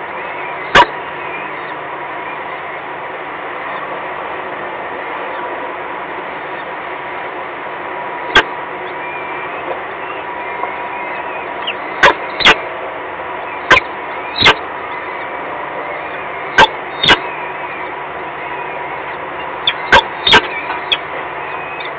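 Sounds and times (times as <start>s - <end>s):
constant high hum: 0.0s - 21.9s.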